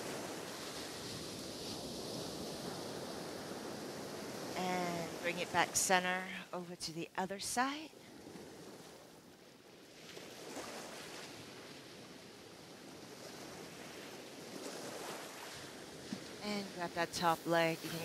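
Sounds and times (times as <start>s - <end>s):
ocean waves: 0.0s - 18.0s.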